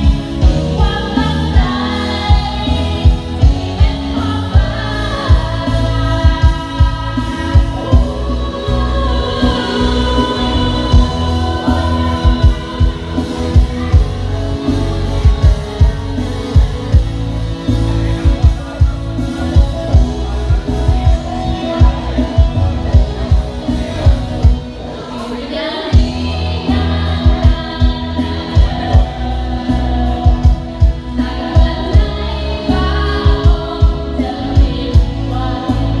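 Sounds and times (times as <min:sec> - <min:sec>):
singing over drum beat: 0:00.0 - 0:36.0.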